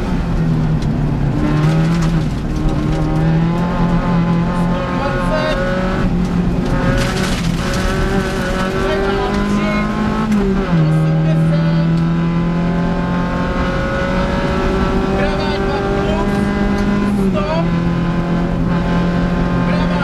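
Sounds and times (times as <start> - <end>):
car engine at high revs: 0.0 - 20.0
road and tyre noise: 0.0 - 20.0.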